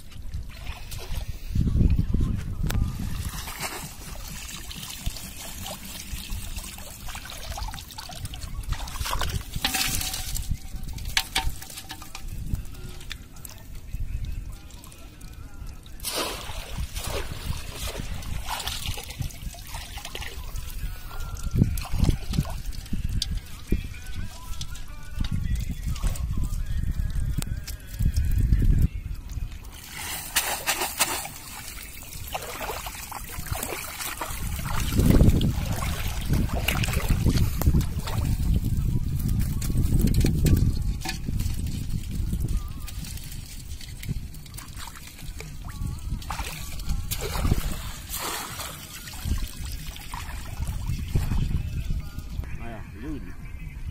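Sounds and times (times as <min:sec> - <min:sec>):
water trickling and splashing: 0:00.0 - 0:52.4.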